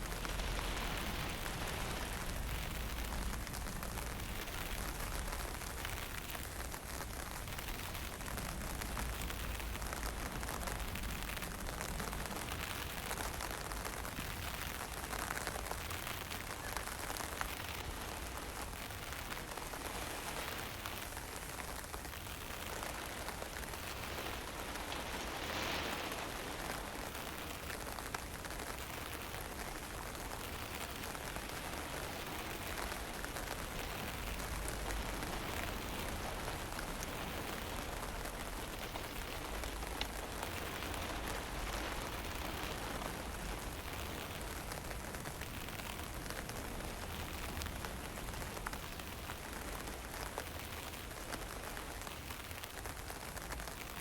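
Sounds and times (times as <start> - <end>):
low wind rumble: 0.0 - 54.0
rain hiss: 0.0 - 54.0.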